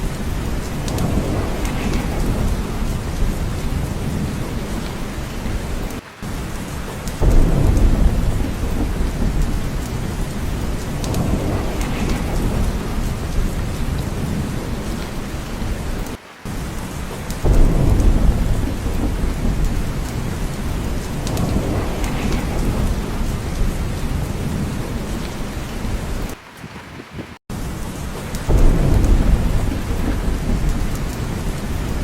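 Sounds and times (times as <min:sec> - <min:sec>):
heavy rain: 0:00.0 - 0:32.0
low rolling thunder: 0:00.0 - 0:32.0.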